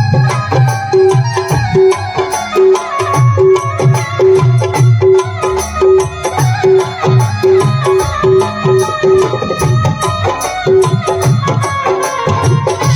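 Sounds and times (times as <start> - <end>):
folk music on hand drums: 0.0 - 12.9.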